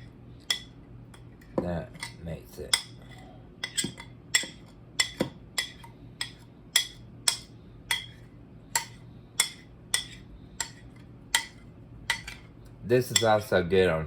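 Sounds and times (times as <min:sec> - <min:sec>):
utensil clinking against dish: 0:00.4 - 0:08.2, 0:08.8 - 0:12.5, 0:13.1 - 0:13.4.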